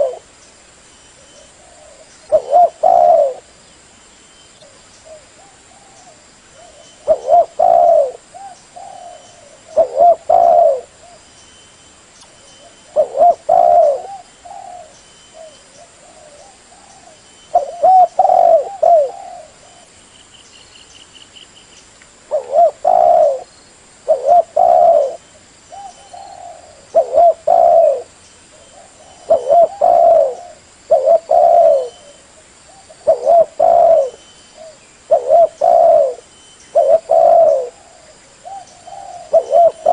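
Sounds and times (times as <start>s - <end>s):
dove cooing: 0.0s - 0.3s, 1.2s - 3.5s, 4.6s - 11.3s, 12.6s - 19.9s, 22.3s - 39.9s.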